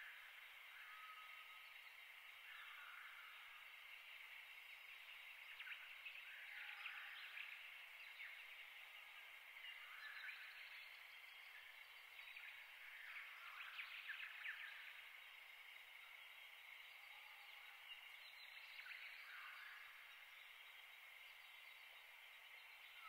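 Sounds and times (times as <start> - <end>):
distant birds twittering: 0.0 - 23.0.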